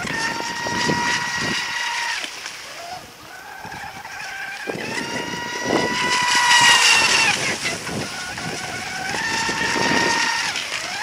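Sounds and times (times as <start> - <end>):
rc boat motor whine: 0.0 - 11.0.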